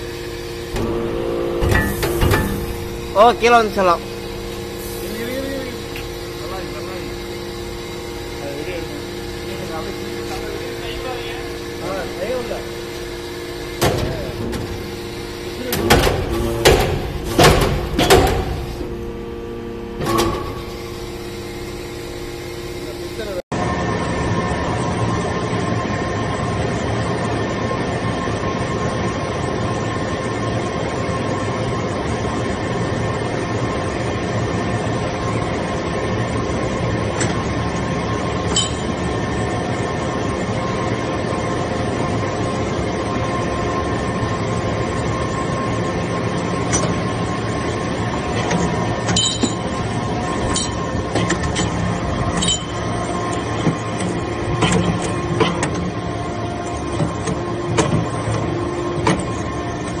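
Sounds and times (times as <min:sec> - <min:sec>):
hydraulic unit hum and whine: 0:00.0 - 1:00.0.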